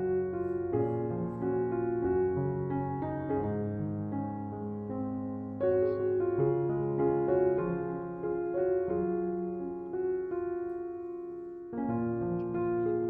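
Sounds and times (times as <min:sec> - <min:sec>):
slow soft piano melody: 0:00.0 - 0:13.0.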